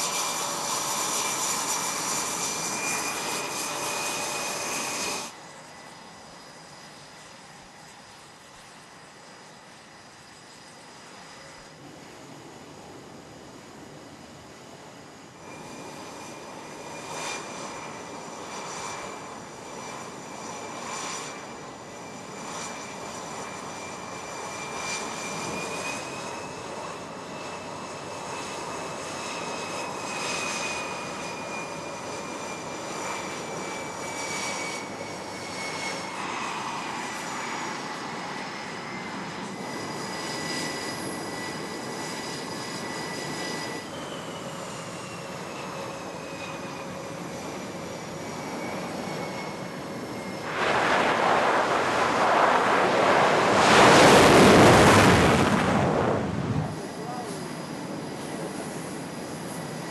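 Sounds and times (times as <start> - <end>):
jet engines whining and rushing: 0.0 - 59.9.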